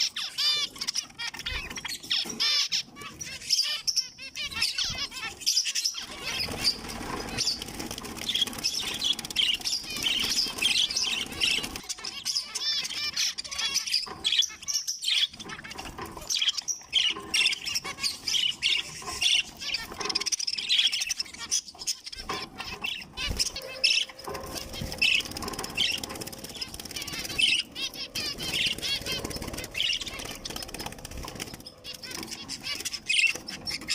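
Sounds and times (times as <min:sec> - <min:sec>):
finches chirping: 0:00.0 - 0:33.9.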